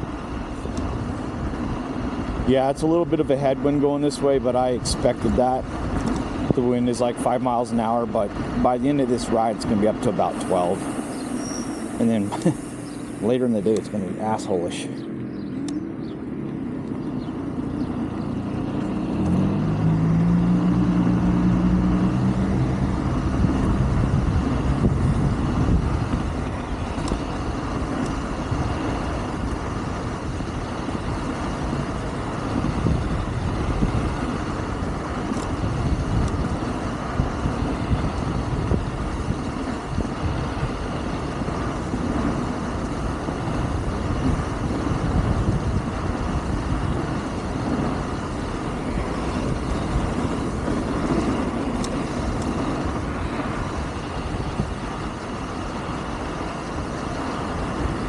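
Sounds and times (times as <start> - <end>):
rumbling road noise: 0.0 - 58.0
wind on microphone: 0.0 - 58.0.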